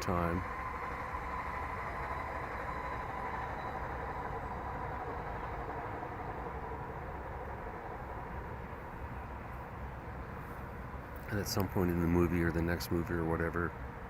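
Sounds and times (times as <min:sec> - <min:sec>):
faint steady tone: 0:00.0 - 0:14.0
hiss and rumble: 0:00.0 - 0:14.0.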